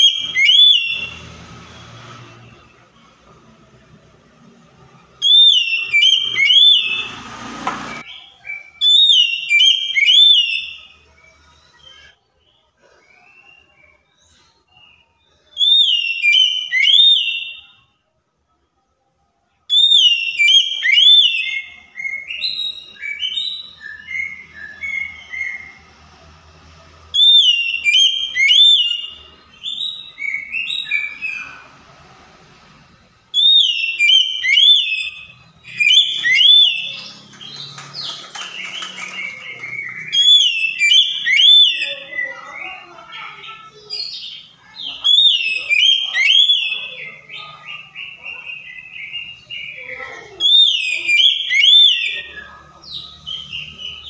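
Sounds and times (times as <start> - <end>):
magpie-robin singing: 0.0 - 1.5, 5.2 - 11.1, 11.7 - 17.9, 19.7 - 25.9, 27.1 - 31.7, 33.3 - 54.0.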